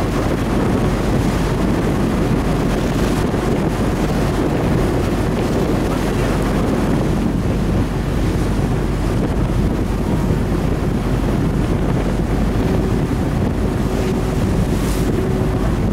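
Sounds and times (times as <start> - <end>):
boat wake rushing through sea: 0.0 - 15.9
wind buffeting microphone: 0.0 - 15.9.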